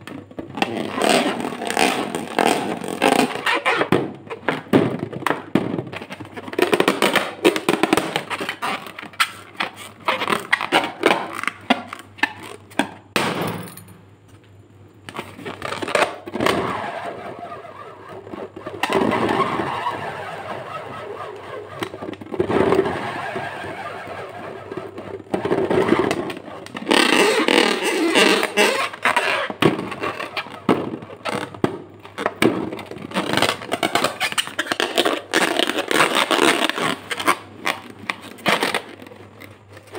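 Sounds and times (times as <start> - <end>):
balloon crackling and scraping: 0.0 - 13.2, 15.0 - 39.9.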